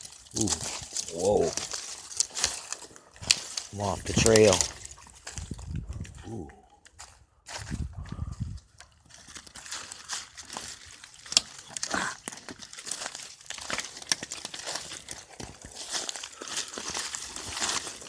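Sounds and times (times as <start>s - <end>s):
footsteps crunching through dry weeds: 0.0s - 18.0s
stems rustling against clothing: 0.0s - 18.0s.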